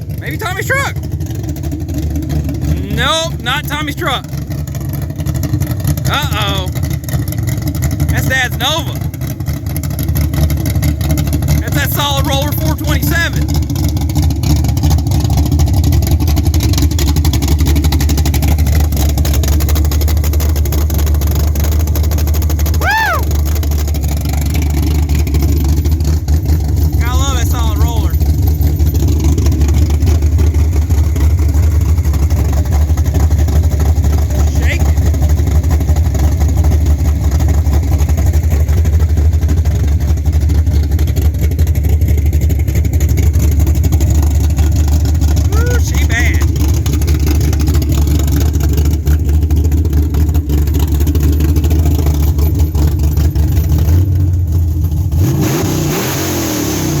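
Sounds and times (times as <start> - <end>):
vee eight engine idling: 0.0 - 55.2.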